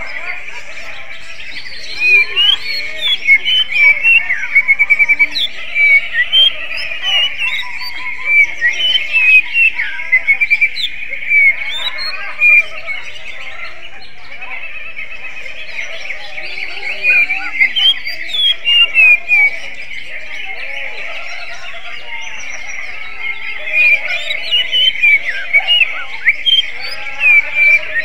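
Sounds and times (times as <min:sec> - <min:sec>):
songbird chirps and trills: 0:00.0 - 0:28.0.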